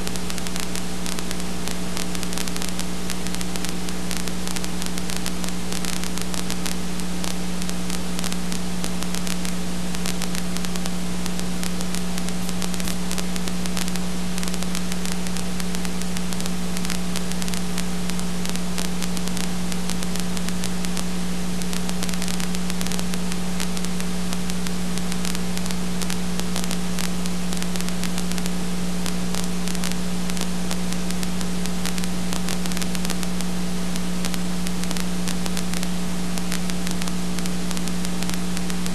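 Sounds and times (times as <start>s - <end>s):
electrical hum: 0.0s - 38.9s
film hiss: 0.0s - 38.9s.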